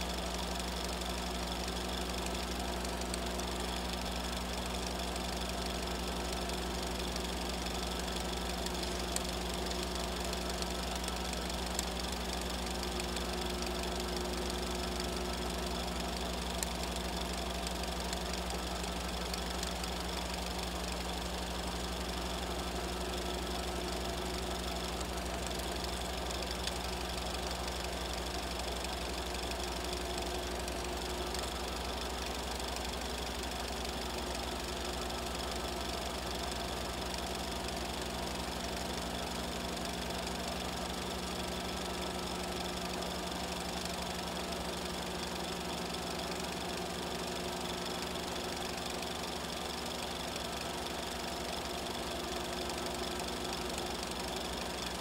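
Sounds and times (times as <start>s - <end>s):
film projector humming: 0.0s - 55.0s.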